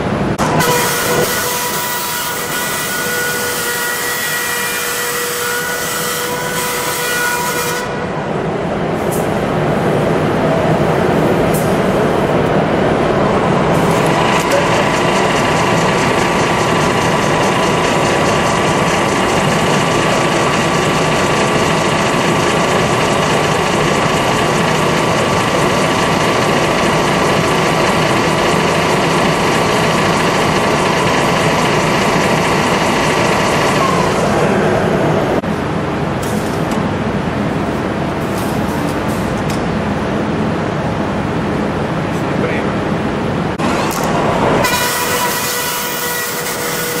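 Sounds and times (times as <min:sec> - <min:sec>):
machine humming: 0:00.0 - 0:47.0
steady whine: 0:05.7 - 0:46.7.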